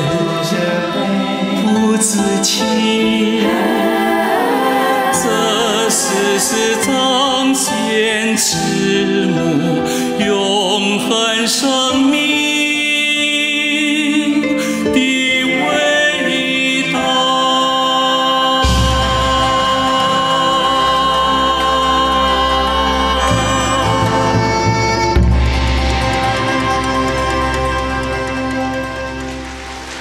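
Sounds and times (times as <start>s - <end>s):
chorus singing: 0.0s - 30.0s
instrumental accompaniment: 0.0s - 30.0s.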